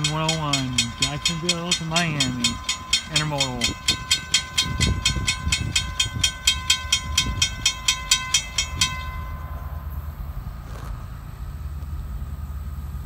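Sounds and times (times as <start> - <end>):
crossing warning bell ringing: 0.0 - 11.2
low rumble: 0.0 - 13.0.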